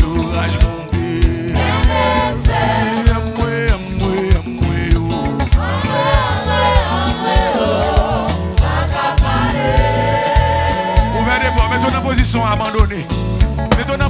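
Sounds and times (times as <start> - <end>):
voices singing together: 0.0 - 12.3
drum and bass beat: 0.0 - 14.0.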